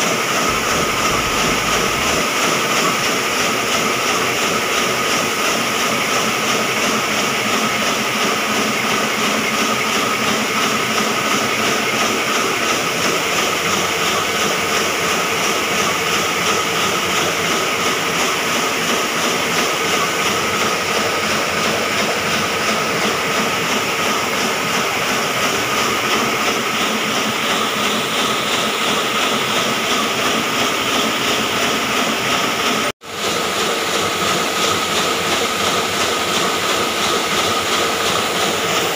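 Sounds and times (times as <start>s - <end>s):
printing press clatter: 0.0s - 38.9s.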